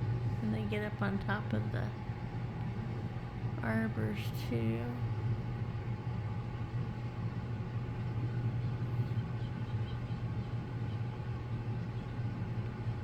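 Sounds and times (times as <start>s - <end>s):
steady low hum: 0.0s - 13.0s
thin constant whine: 0.0s - 13.0s.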